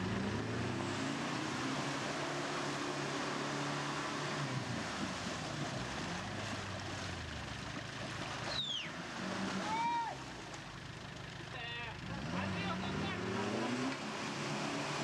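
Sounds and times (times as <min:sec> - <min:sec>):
wheels splashing muddy water: 0:00.0 - 0:15.0.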